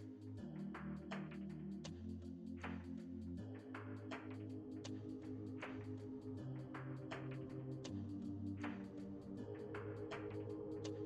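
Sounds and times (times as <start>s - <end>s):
low bass notes and chords: 0.0s - 11.0s.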